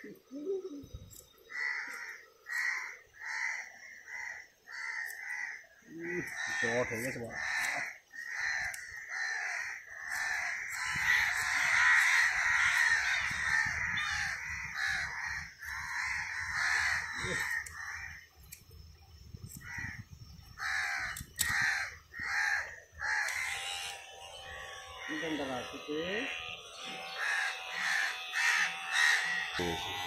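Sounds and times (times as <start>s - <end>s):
birds making harsh calls: 0.0s - 18.6s, 19.4s - 30.0s.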